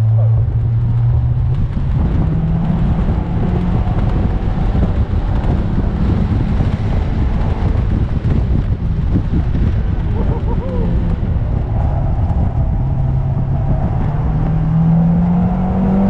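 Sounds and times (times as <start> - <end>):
car engine running hard: 0.0 - 16.0
wind buffeting microphone: 0.0 - 16.0.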